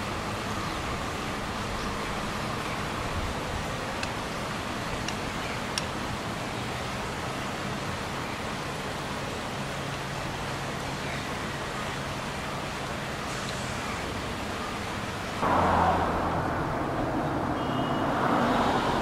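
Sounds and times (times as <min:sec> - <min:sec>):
distant traffic rumble: 0:00.0 - 0:19.0
flowing river water: 0:00.0 - 0:19.0.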